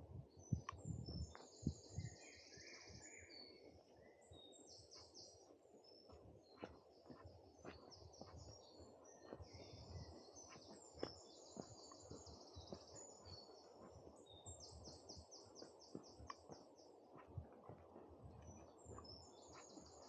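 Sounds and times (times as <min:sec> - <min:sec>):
songbirds trilling: 0:00.5 - 0:20.0
footsteps on woodland path: 0:01.0 - 0:20.0.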